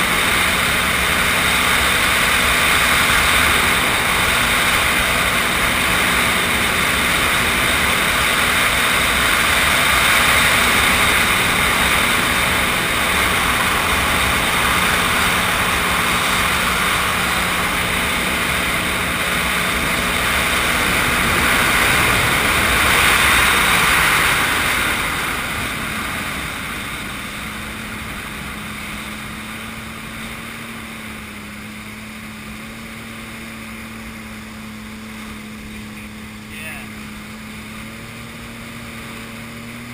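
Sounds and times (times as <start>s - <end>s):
personal watercraft engine: 0.0s - 39.9s
rush of water and air: 0.0s - 39.9s.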